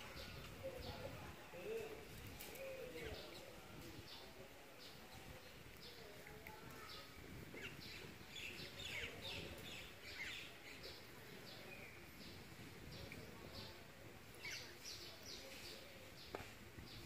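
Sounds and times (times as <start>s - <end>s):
low background noise: 0.0s - 17.0s
small birds chirping: 0.0s - 17.0s.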